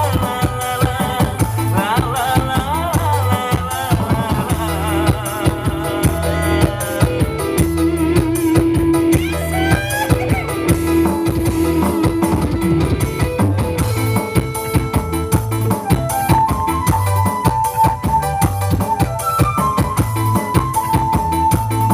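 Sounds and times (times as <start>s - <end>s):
bass: 0.0s - 21.9s
drum kit beating: 0.0s - 21.9s
electric guitar sliding melody: 0.0s - 21.9s.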